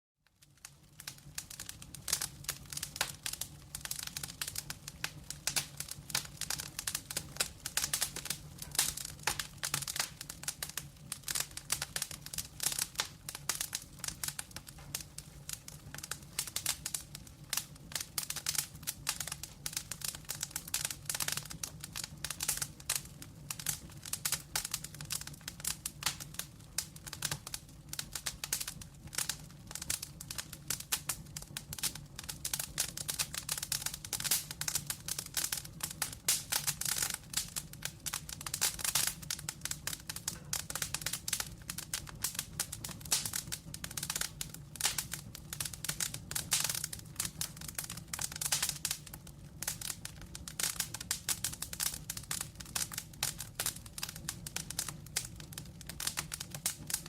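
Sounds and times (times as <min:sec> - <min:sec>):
wood fire crackling: 0:00.2 - 0:57.0.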